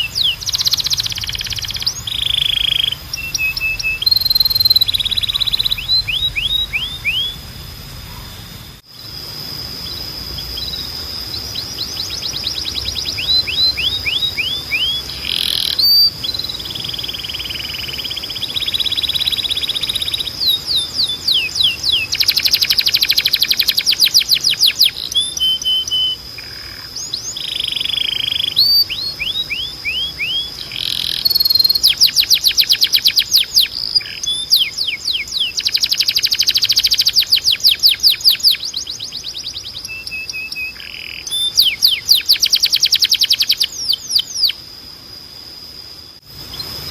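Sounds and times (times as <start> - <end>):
canary singing: 0.0 - 44.6, 46.4 - 46.9
steady high whistle-like tone: 0.0 - 44.6.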